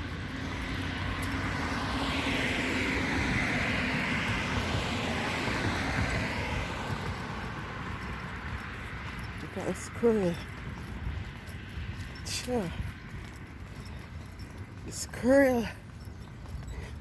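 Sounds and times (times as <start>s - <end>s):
vehicle passing by: 0.0s - 15.1s.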